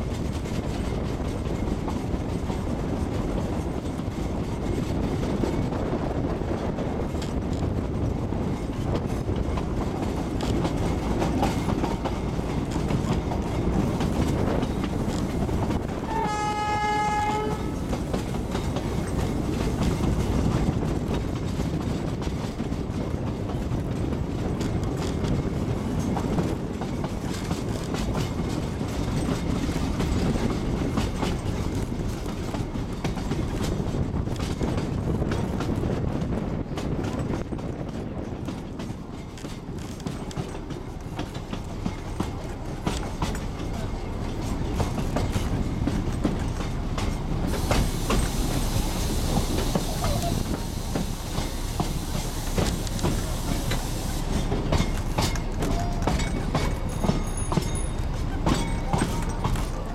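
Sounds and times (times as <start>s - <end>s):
train running low rumble: 0.0s - 59.9s
wheels clicking over rail joints: 0.0s - 59.9s.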